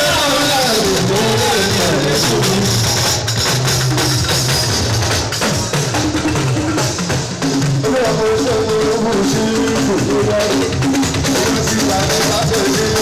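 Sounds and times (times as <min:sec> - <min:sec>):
drums and percussion: 0:00.0 - 0:13.0
steady bass line: 0:00.0 - 0:13.0.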